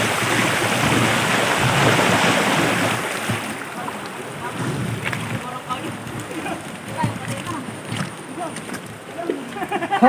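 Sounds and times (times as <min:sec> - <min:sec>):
river rushing over rocks: 0:00.0 - 0:09.6.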